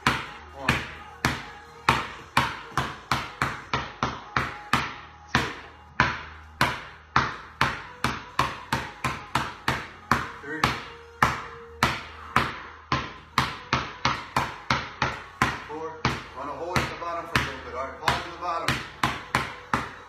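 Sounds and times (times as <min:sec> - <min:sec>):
basketball bouncing on concrete: 0:00.0 - 0:20.0.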